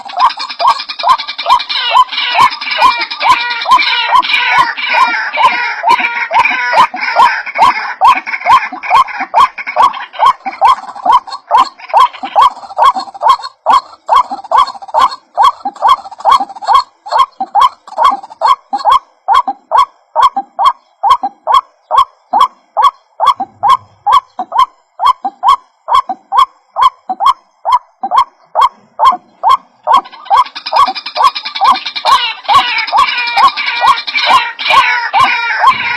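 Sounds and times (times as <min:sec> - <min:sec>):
harsh bird call notes: 0:00.0 - 0:35.9
high bird chattering: 0:00.0 - 0:35.9.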